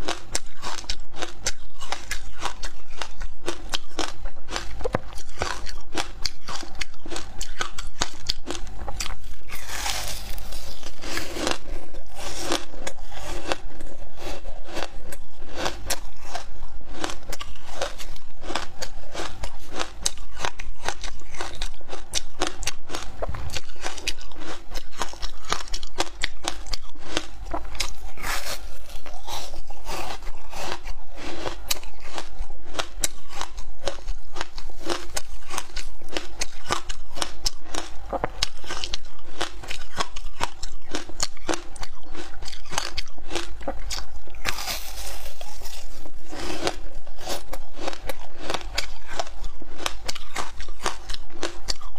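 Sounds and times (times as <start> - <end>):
ice being chewed crunching: 0.0 - 51.9.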